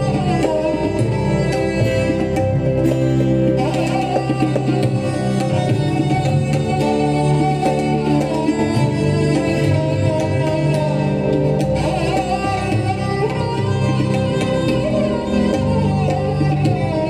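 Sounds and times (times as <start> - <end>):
keyboard: 0.0 - 17.0
sarangi: 0.0 - 17.0
tabla strokes: 0.0 - 17.0.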